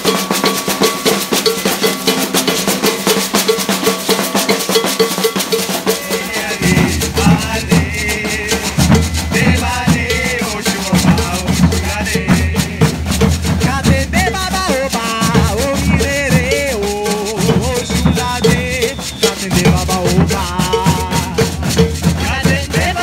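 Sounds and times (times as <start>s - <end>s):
bass drums beating: 0.0s - 23.0s
shaker rattling: 0.0s - 23.0s
snare drum: 0.0s - 23.0s
voices singing: 0.0s - 23.0s.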